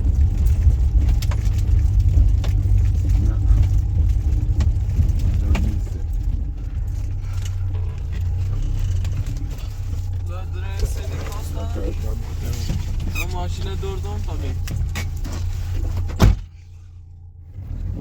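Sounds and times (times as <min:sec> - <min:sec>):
light rattles and clicks: 0:00.0 - 0:16.2
vehicle driving rumble: 0:00.0 - 0:18.0.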